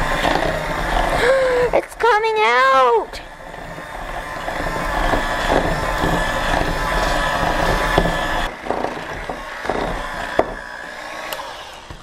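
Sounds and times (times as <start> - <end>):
electric hand mixer motor whine: 0.0 - 12.0.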